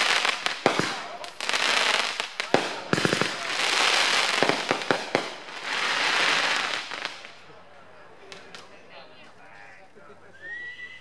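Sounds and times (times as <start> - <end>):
fireworks popping: 0.0 - 7.4, 8.2 - 9.7
fireworks crackling: 0.0 - 10.0.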